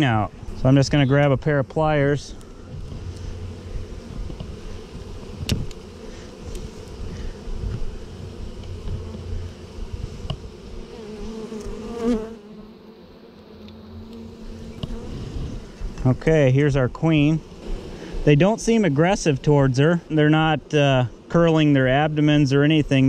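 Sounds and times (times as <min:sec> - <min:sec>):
bee buzzing close by: 0:00.0 - 0:23.0
honeybees buzzing: 0:00.0 - 0:23.0.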